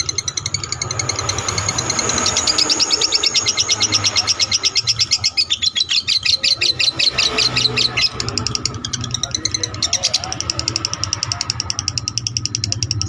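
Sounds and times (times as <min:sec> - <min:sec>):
lovebird chattering chirps: 0:00.0 - 0:13.0.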